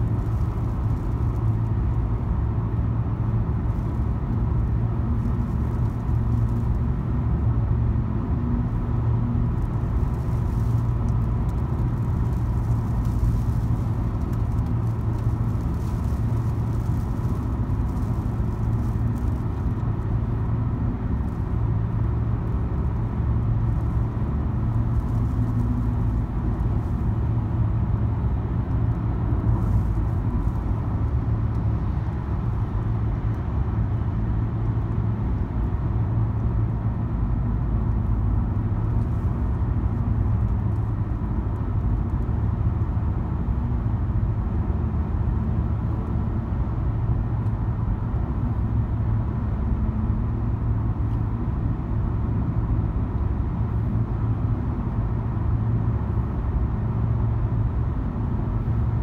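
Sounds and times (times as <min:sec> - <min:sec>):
car cabin road rumble: 0:00.0 - 0:59.0.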